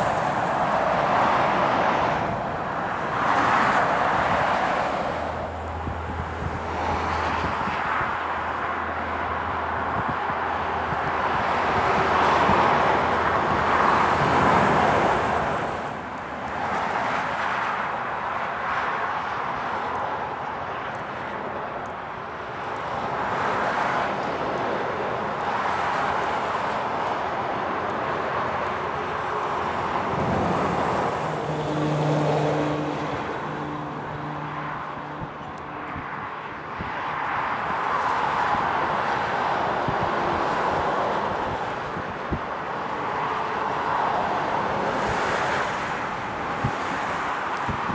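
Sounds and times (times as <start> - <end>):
motorway traffic passing: 0.0 - 47.9.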